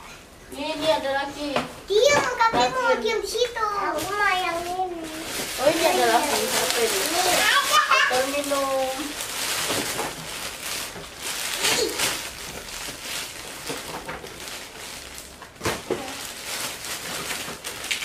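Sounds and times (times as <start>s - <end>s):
cellophane rustling and crinkling: 0.6s - 18.0s.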